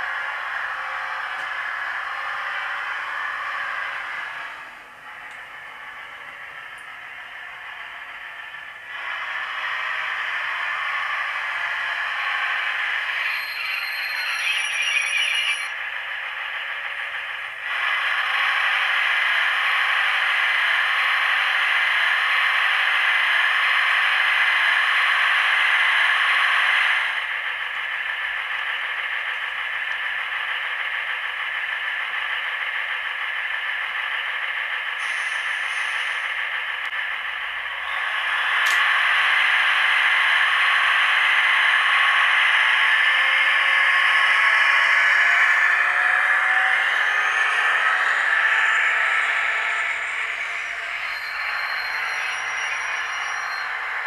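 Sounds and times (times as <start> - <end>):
model train diesel engine sound: 0.0 - 54.0.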